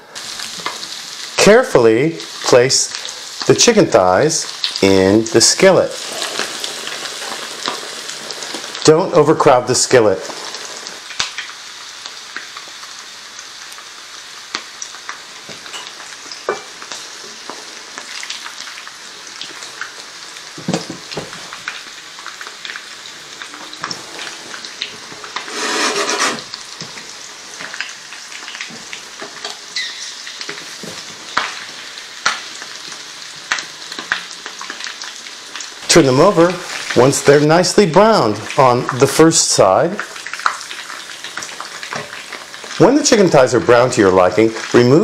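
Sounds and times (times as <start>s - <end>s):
chicken sizzling in oil: 0.0s - 45.0s
oil crackling and popping: 0.1s - 45.0s.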